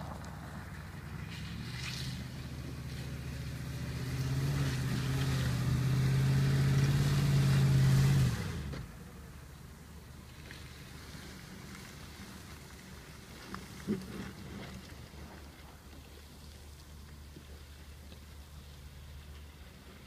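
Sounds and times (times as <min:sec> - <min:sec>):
car engine pulling uphill: 0:00.0 - 0:20.0.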